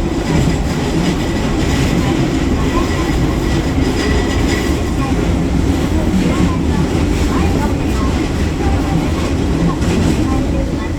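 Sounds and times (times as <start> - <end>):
train wheels rumbling on rails: 0.0 - 10.9.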